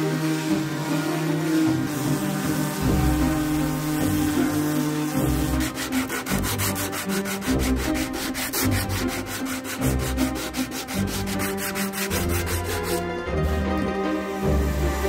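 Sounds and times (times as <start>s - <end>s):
sanding block rubbing on wood: 0.0s - 13.6s, 14.3s - 15.0s.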